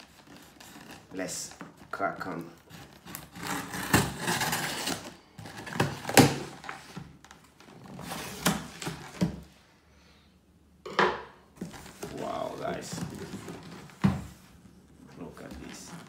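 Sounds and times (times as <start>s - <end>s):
cardboard flaps rustling and scraping: 0.0s - 9.6s, 11.6s - 16.0s.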